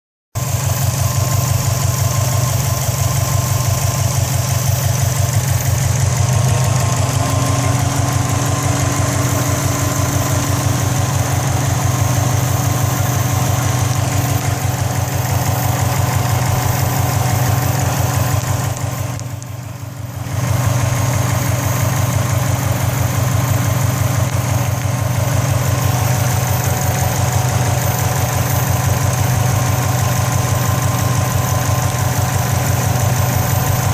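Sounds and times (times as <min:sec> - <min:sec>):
car engine idling: 0:00.4 - 0:33.9
turbocharger rattle: 0:00.4 - 0:33.9.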